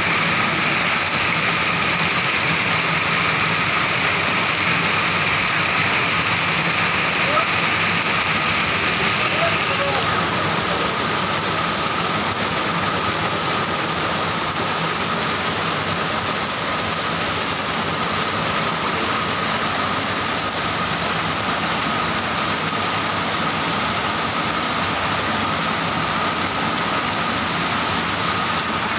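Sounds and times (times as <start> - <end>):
heavy rain on wet pavement: 0.0 - 28.9.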